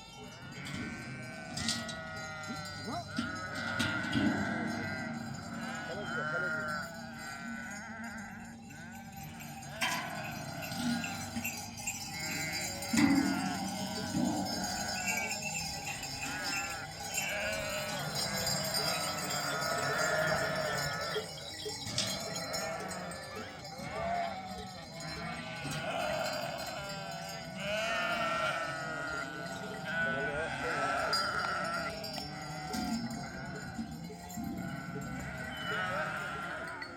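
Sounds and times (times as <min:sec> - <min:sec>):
sheep bleating: 0:00.0 - 0:33.9, 0:34.5 - 0:36.9
livestock bells clanking: 0:00.0 - 0:36.9.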